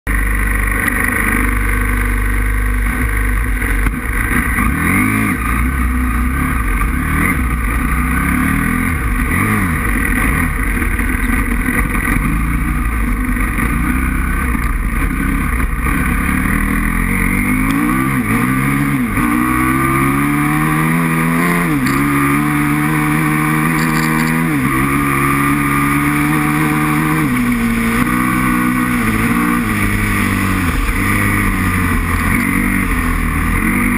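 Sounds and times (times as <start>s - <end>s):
motorcycle engine accelerating: 0.1s - 33.9s.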